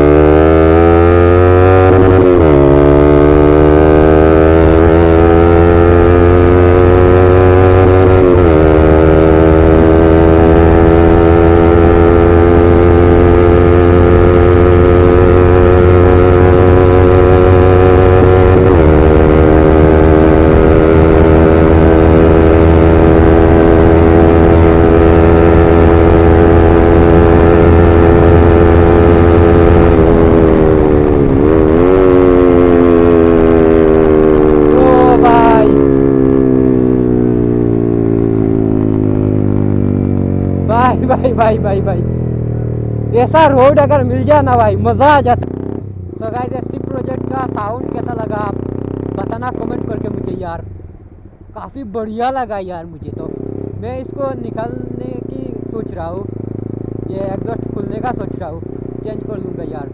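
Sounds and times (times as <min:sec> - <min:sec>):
motorcycle engine revving through gears: 0:00.0 - 0:51.6, 0:53.0 - 0:59.9.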